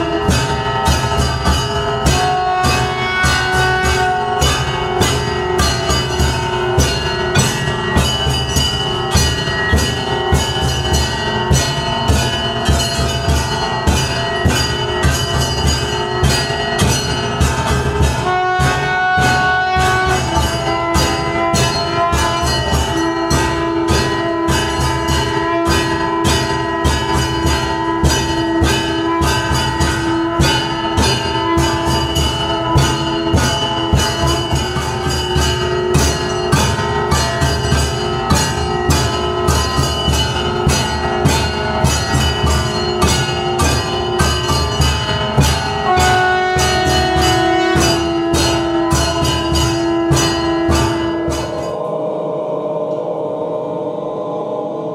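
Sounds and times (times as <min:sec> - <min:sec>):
drums struck rapidly: 0:00.0 - 0:51.8
temple bells ringing: 0:00.0 - 0:53.2.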